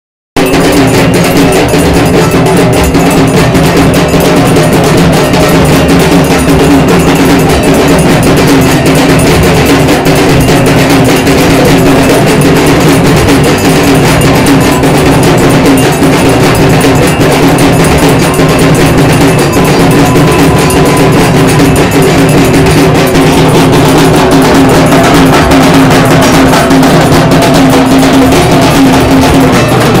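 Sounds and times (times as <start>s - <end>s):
drums beaten with sticks: 0.4s - 30.0s.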